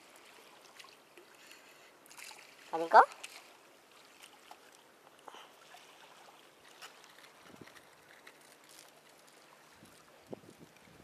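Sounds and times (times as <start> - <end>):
faint hiss of wind and water: 0.0 - 11.0.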